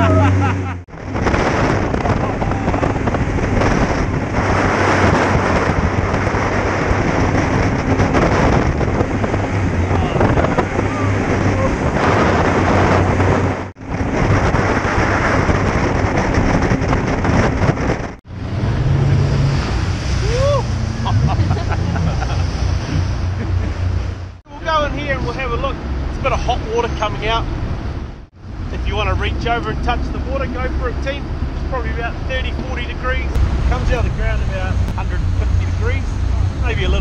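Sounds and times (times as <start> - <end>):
boat engine humming: 0.0 - 37.0
rushing water: 0.0 - 37.0
wind buffeting microphone: 0.0 - 37.0.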